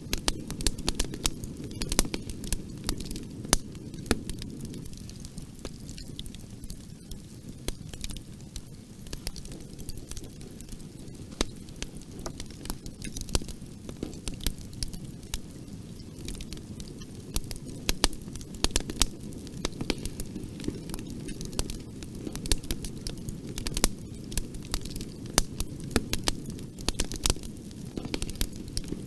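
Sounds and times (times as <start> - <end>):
fire crackling: 0.0 - 29.0.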